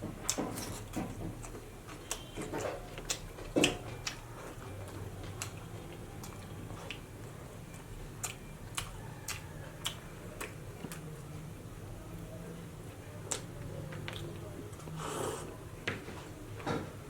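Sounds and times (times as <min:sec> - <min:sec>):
person chewing with wet smacks: 0:00.0 - 0:12.3, 0:13.2 - 0:15.2.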